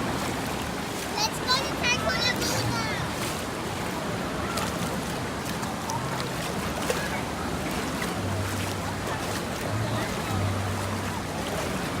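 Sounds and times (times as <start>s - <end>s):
splashing water: 0.0s - 12.0s.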